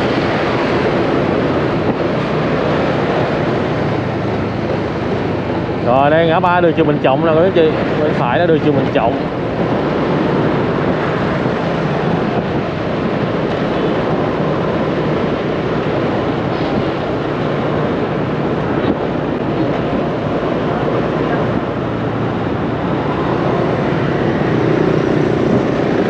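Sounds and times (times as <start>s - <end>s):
road and traffic noise: 0.0s - 26.0s
wind rushing over microphone: 0.0s - 26.0s.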